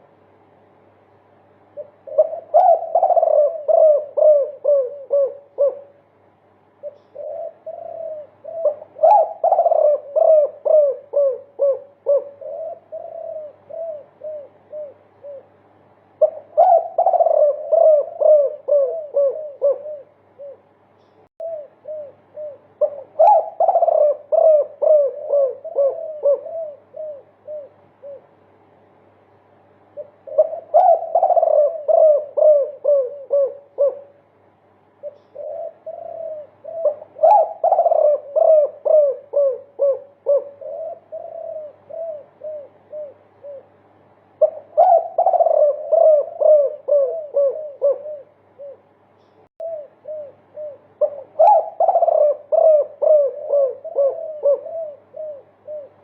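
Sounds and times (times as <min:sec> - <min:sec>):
dove cooing: 0:01.6 - 0:06.1, 0:06.7 - 0:28.5, 0:29.8 - 0:56.0.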